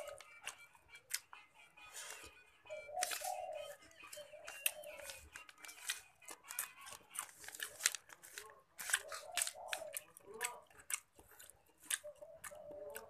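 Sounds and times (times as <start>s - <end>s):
food wrapper crinkling: 1.9s - 13.0s.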